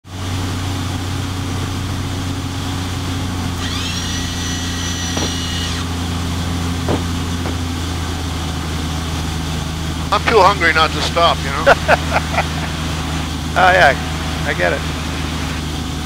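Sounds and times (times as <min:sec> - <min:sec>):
airplane engine drone in flight: 0:00.0 - 0:16.0.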